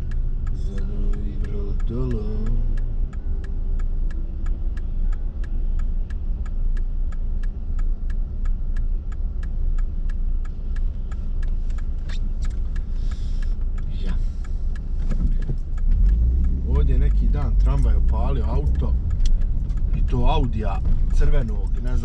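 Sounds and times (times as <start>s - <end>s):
engine and road noise rumble: 0.0s - 22.0s
turn signal ticking: 0.0s - 22.0s.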